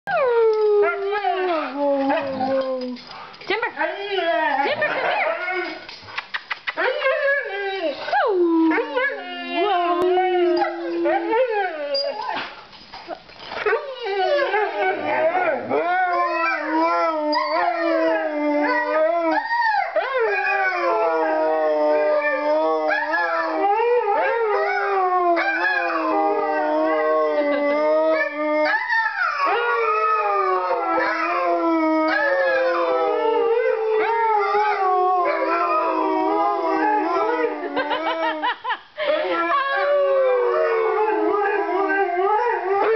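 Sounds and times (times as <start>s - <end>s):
dogs howling: 0.1s - 3.0s, 6.8s - 12.4s, 13.6s - 38.6s, 39.3s - 42.9s.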